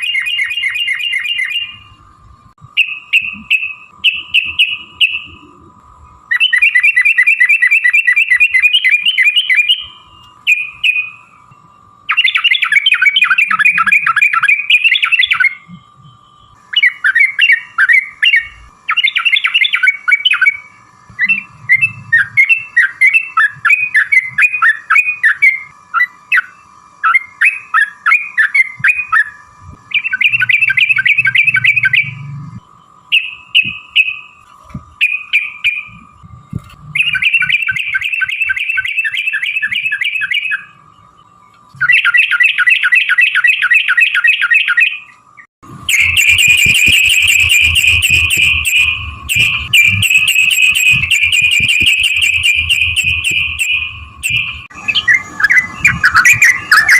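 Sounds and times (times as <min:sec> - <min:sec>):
bird chattering song: 0:00.0 - 0:01.8, 0:02.8 - 0:05.6, 0:06.3 - 0:11.3, 0:12.1 - 0:32.2, 0:33.1 - 0:34.3, 0:36.9 - 0:45.2, 0:45.9 - 0:56.9.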